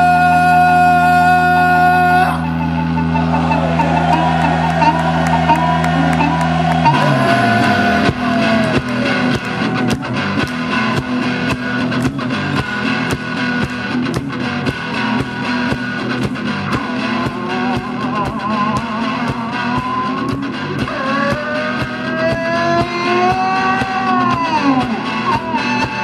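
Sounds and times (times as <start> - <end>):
guitar picked in driving rhythm: 0.0 - 26.0
harmonica bending notes: 0.0 - 26.0.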